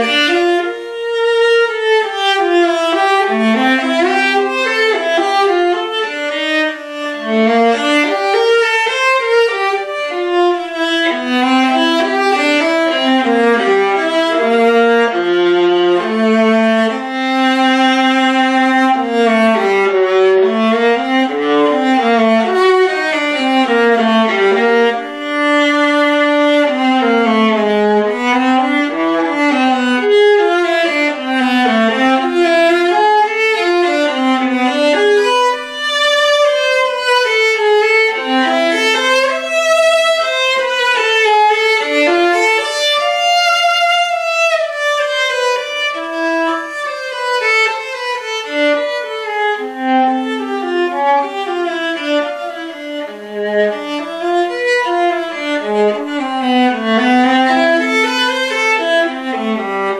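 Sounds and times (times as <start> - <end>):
solo viola melody: 0.0 - 59.9.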